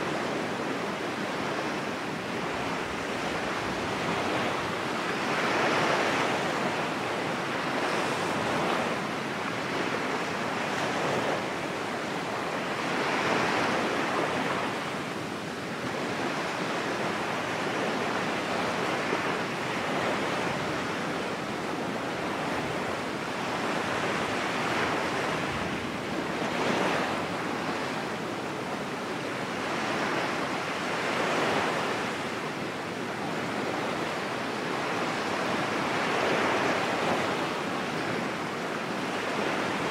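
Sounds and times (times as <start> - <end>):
ocean waves rushing: 0.0 - 39.9.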